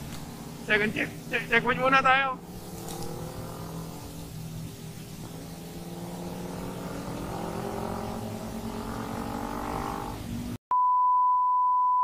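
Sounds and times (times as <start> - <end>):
motorcycle engine accelerating: 0.0 - 10.6
wind and road noise: 0.0 - 10.6.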